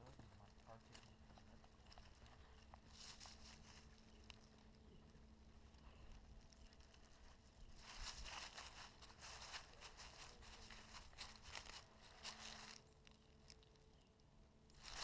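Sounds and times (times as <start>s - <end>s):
crunching and rustling: 0.0s - 15.0s.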